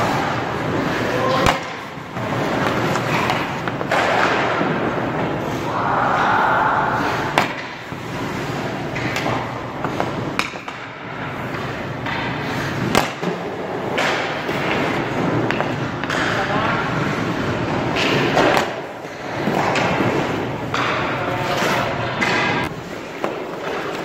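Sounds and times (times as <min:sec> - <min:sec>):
hockey pucks clacking: 0:00.0 - 0:24.0
skates scraping across ice: 0:00.0 - 0:24.0.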